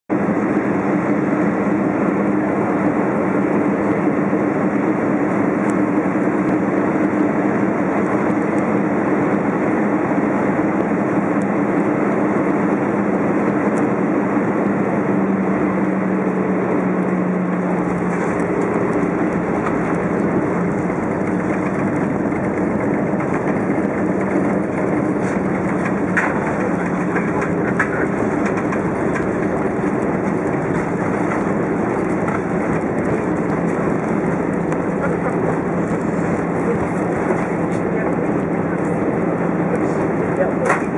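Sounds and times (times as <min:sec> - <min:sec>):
jet engine and airflow rumble: 0:00.1 - 0:40.9
low hum: 0:00.2 - 0:40.9.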